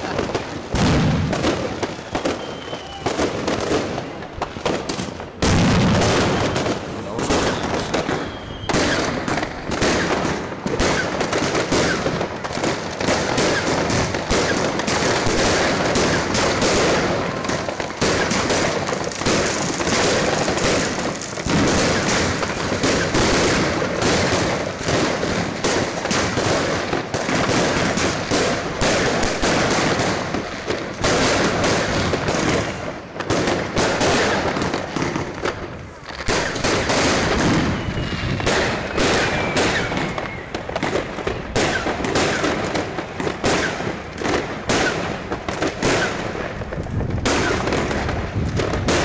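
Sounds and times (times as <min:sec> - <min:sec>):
fireworks crackling and banging: 0:00.0 - 0:49.0.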